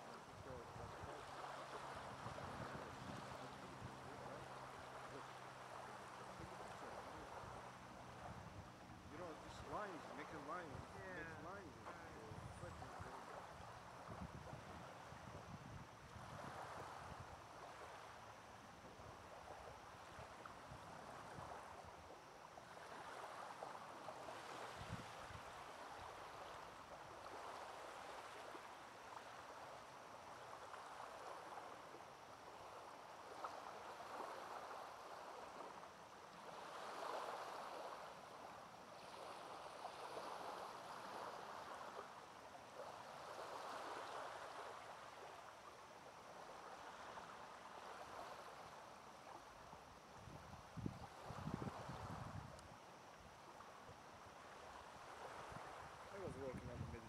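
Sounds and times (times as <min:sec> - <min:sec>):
small waves lapping on pebbles: 0:00.0 - 0:57.0.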